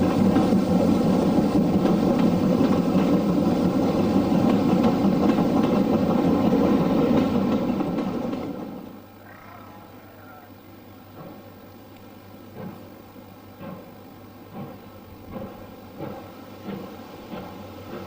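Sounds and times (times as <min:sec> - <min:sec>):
train engine running: 0:00.0 - 0:18.0.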